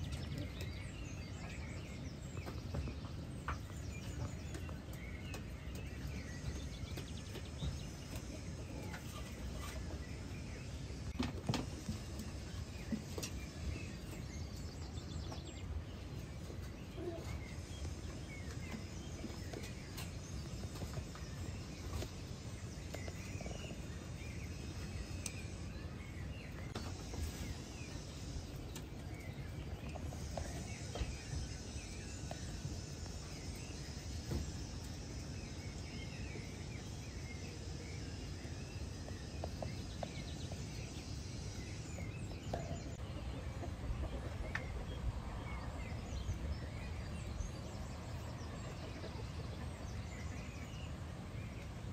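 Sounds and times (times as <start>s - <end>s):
birds chirping: 0.0s - 51.9s
steady low background noise: 0.0s - 51.9s.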